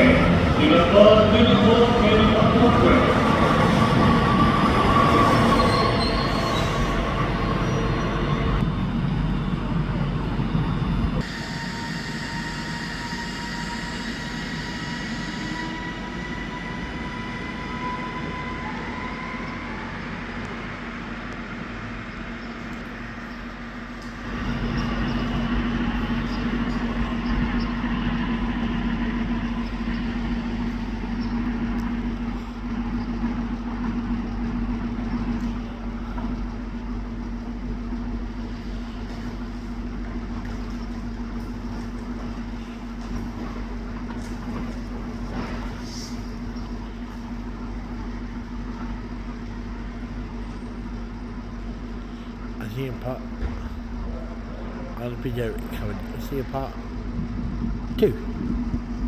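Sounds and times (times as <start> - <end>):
rising train whine: 0.0 - 59.0
steady train hum: 0.0 - 59.0
train rumbling: 0.0 - 59.0.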